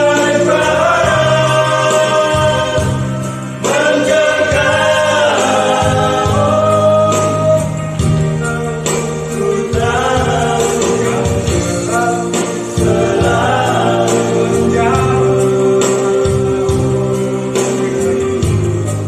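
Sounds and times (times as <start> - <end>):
band accompaniment with bass: 0.0 - 19.0
group singing gospel: 0.0 - 19.0.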